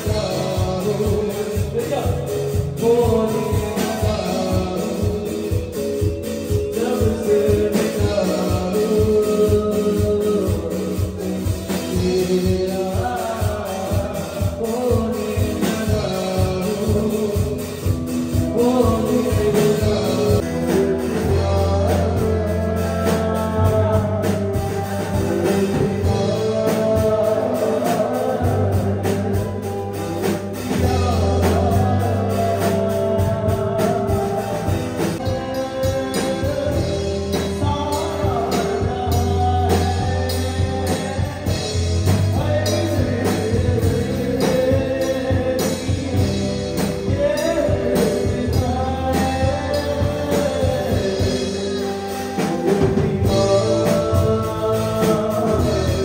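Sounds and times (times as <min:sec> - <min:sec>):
live band playing: 0:00.0 - 0:56.0
man singing into microphone: 0:00.0 - 0:56.0.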